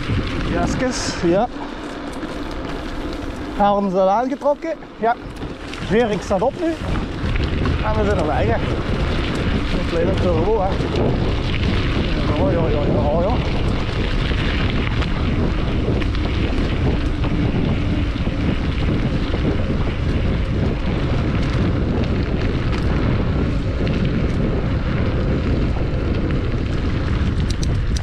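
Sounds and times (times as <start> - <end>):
bicycle tyres rolling on gravel: 0.0 - 28.0
small rattles and ticks: 0.0 - 28.0
wind buffeting microphone: 0.0 - 28.0.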